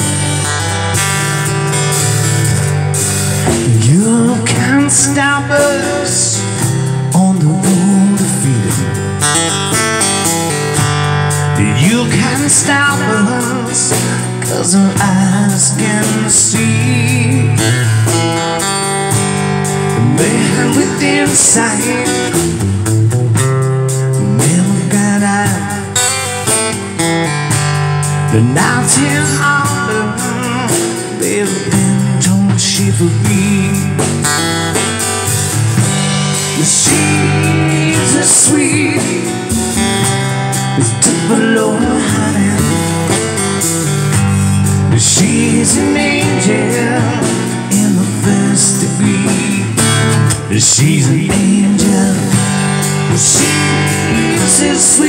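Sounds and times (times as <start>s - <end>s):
bending lead melody: 0.0s - 55.0s
hand drum and drum kit: 0.0s - 55.0s
low bass line: 0.0s - 55.0s
strummed acoustic guitar: 0.0s - 55.0s.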